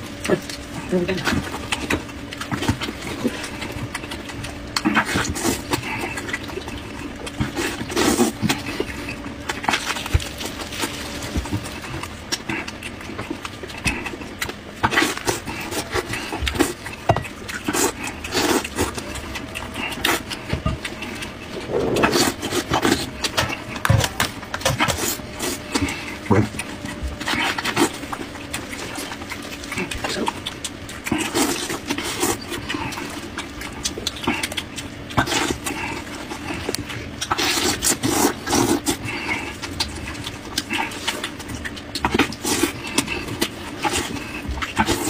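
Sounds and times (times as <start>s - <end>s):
chewing and lip-smacking: 0.0s - 45.0s
faint steady hum: 0.0s - 45.0s
meat tearing crackling: 1.4s - 45.0s.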